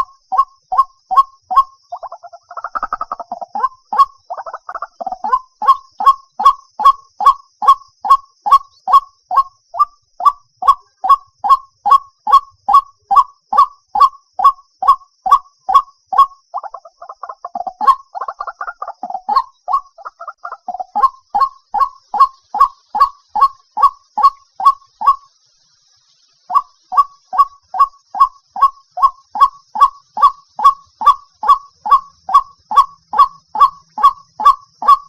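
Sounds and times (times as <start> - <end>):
waterhen calling: 0.0 - 25.3, 26.4 - 35.0.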